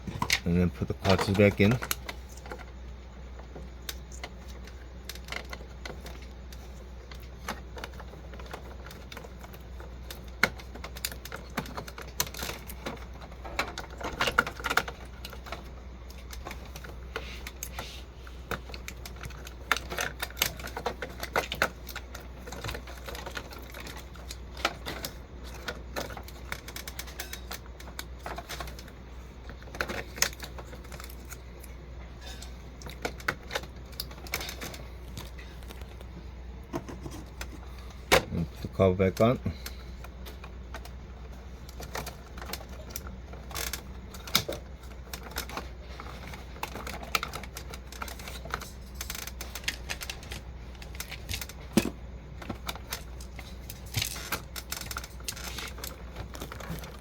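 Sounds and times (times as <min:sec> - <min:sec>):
plastic printer parts clicking: 0:00.0 - 0:57.0.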